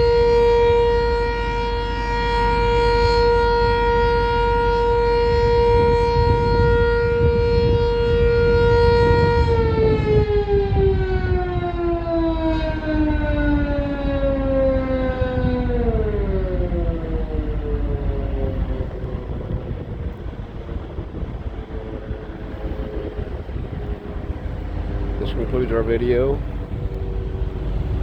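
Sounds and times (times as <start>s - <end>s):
warning siren winding down: 0.0s - 28.0s.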